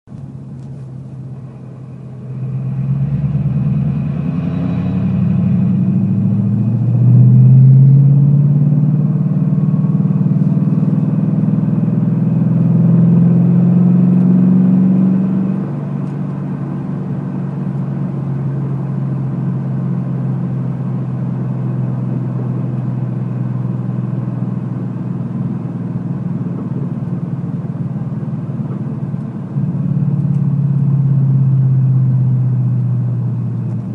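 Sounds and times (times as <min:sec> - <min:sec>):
car engine revving and idling: 0:00.1 - 0:33.9.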